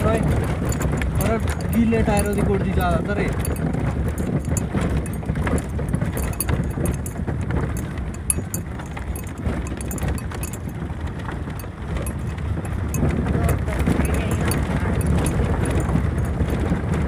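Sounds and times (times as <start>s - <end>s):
rattling and knocking over stones: 0.0s - 17.0s
vehicle engine and road rumble: 0.0s - 17.0s.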